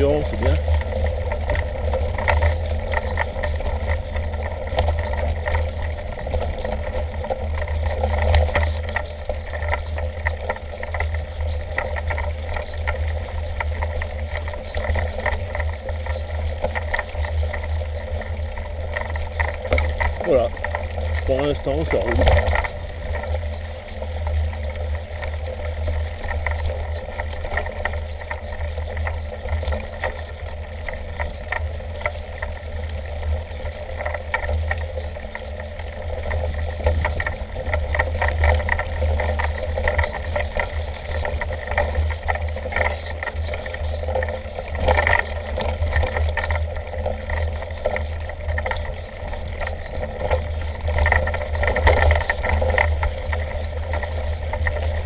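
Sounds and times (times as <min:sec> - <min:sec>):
bike rattling and knocking: 0:00.0 - 0:55.0
mountain bike rolling over rough ground: 0:00.0 - 0:55.0.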